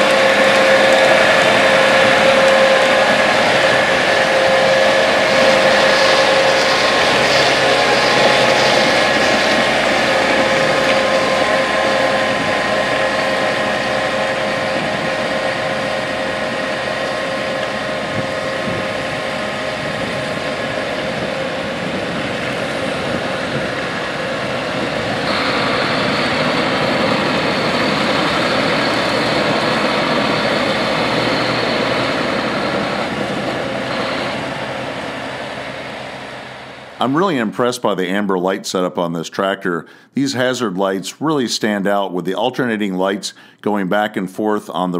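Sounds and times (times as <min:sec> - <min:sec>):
whining tones: 0:00.0 - 0:37.2
tractor engine running: 0:00.0 - 0:37.7.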